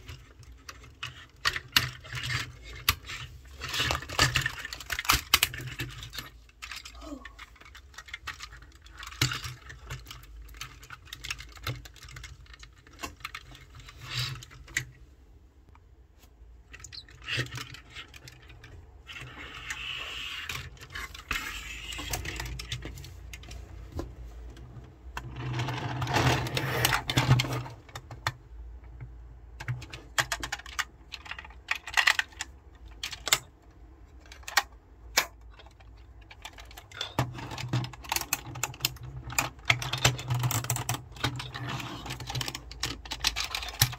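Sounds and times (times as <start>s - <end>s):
plastic toy clicking and rattling: 0.0s - 15.0s, 16.7s - 23.6s, 25.1s - 43.9s
plastic rattling and scraping: 0.0s - 15.1s, 16.6s - 43.9s.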